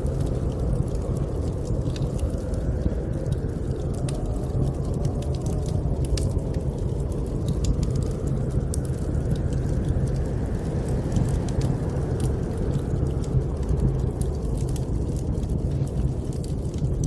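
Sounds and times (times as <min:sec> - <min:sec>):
blizzard wind rumble: 0:00.0 - 0:17.0
fireplace crackling and popping: 0:00.0 - 0:17.0.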